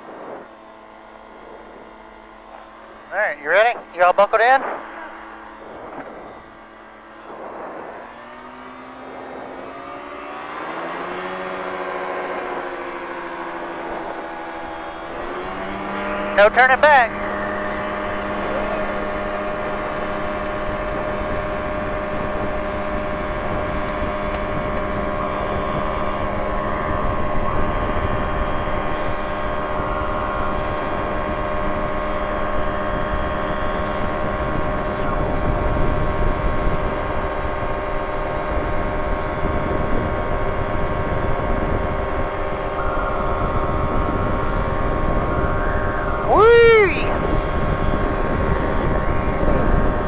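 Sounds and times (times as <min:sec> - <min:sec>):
light aircraft engine and propeller drone: 0:00.0 - 0:50.0.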